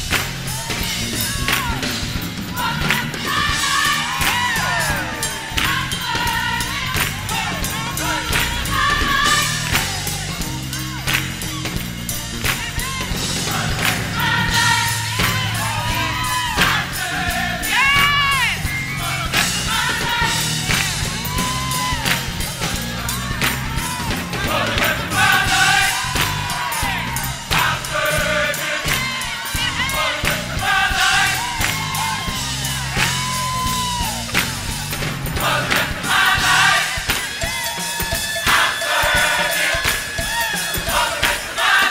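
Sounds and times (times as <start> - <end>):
bass line: 0.0 - 37.0
drum hits: 0.0 - 41.9
gospel choir singing: 0.0 - 41.9
sharp regular beat: 0.0 - 41.9.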